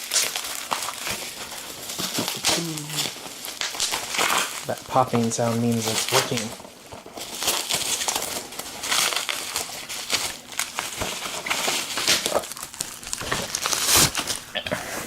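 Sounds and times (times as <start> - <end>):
bubble wrap crinkling: 0.0 - 14.5.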